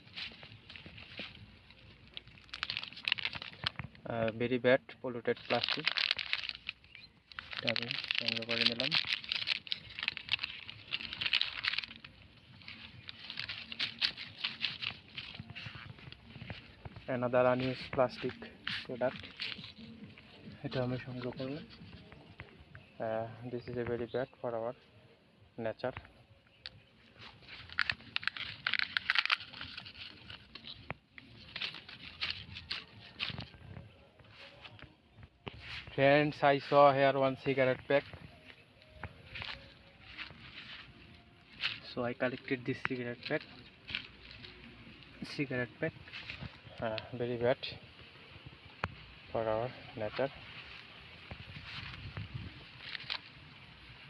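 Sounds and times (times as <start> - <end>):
plastic bag crinkling: 0.0 - 4.4, 5.1 - 22.9, 26.7 - 47.7, 49.6 - 54.0.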